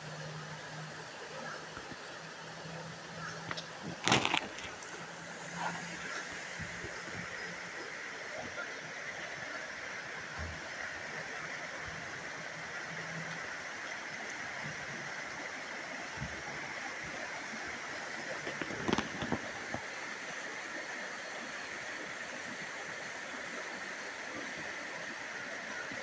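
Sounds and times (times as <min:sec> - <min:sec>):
river rippling over rocks: 0:00.0 - 0:26.0.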